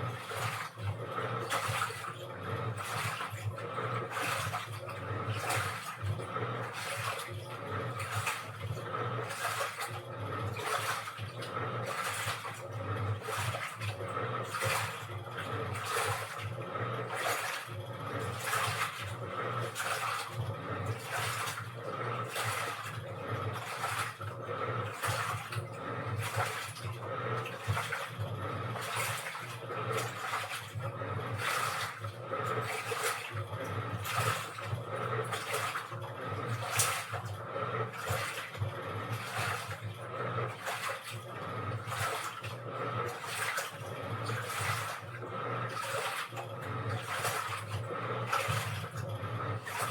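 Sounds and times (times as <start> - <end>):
washing machine hum: 0.0 - 49.9
water sloshing in washing machine: 0.0 - 49.9.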